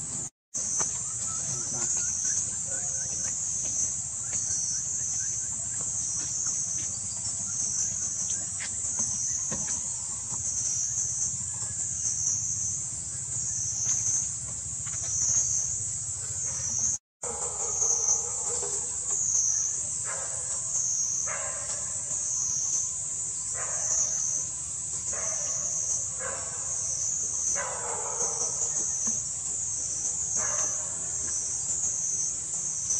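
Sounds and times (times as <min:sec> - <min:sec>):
insects buzzing: 0:00.0 - 0:32.9.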